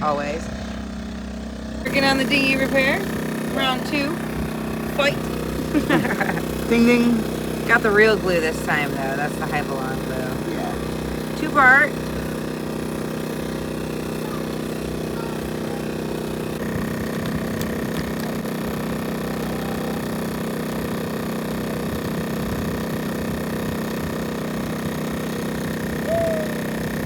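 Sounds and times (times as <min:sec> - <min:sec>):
steady engine-like hum: 0:00.0 - 0:27.0.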